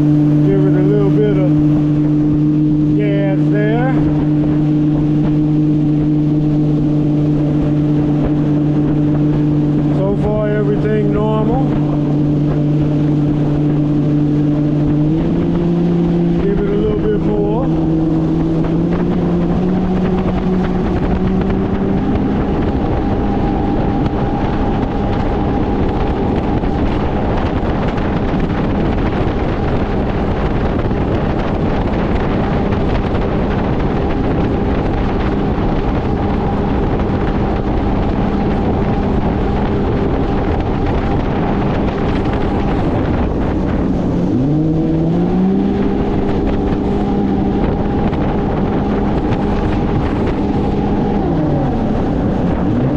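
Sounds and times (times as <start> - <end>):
boat engine running: 0.0 - 52.9
rushing water: 0.0 - 52.9
wind on microphone: 0.0 - 52.9.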